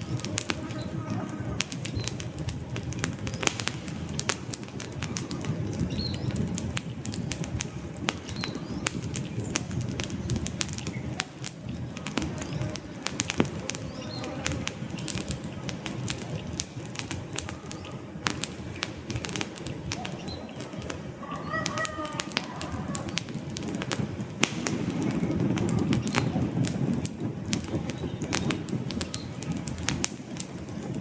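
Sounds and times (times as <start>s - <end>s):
logs crackling and popping: 0.0s - 31.0s
low fluttering rumble of flames: 0.0s - 31.0s.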